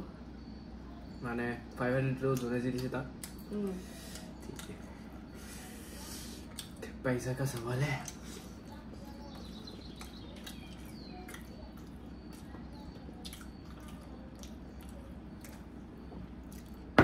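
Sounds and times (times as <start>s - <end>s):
steady low hum: 0.0s - 17.0s
people chewing: 2.2s - 17.0s.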